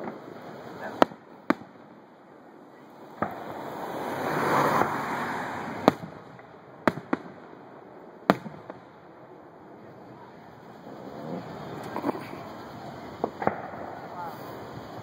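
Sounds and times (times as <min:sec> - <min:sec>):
rush of noise: 0:00.0 - 0:06.8, 0:07.4 - 0:15.0
firework shells bursting: 0:00.0 - 0:15.0.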